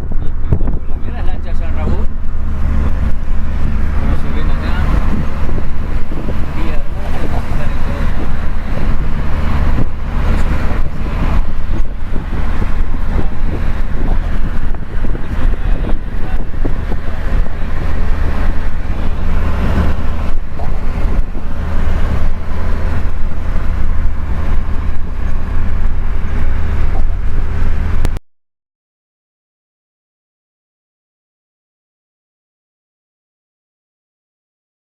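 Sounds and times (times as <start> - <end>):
boat engine rumble: 0.0 - 28.2
wind buffeting microphone: 0.0 - 28.2.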